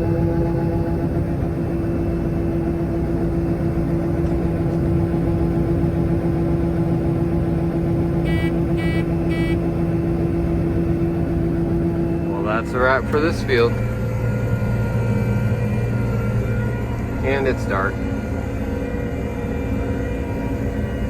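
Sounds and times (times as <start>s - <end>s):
combine harvester droning: 0.0s - 21.0s.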